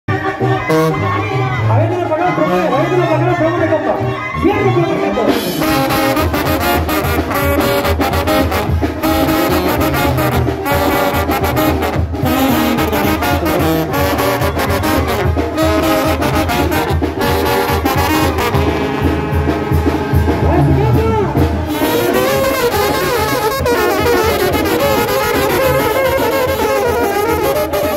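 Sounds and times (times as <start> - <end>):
trombones playing melody: 0.1 - 3.1, 3.8 - 27.9
tuba bass line: 0.1 - 27.9
steady drum beat: 4.5 - 27.9.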